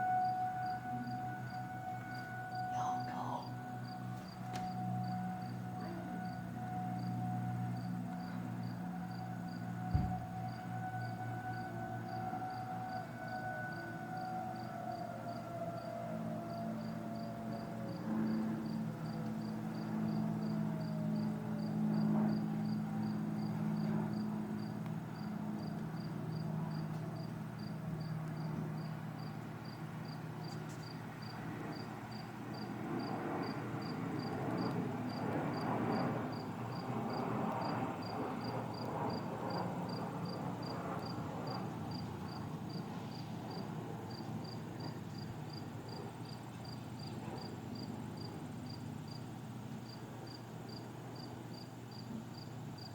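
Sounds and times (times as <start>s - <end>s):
distant warning siren winding down: 0.0s - 47.4s
low steady hum: 0.0s - 49.5s
cricket chirping: 0.0s - 52.9s.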